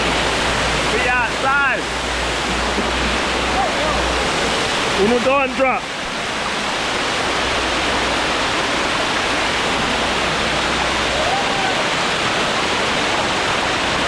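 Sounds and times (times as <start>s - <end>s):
water cascading down rocks: 0.0s - 14.0s.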